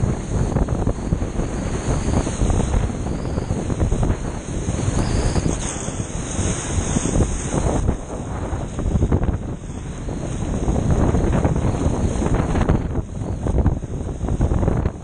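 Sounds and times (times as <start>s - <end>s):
rushing whitewater: 0.0s - 15.0s
wind buffeting microphone: 0.0s - 15.0s.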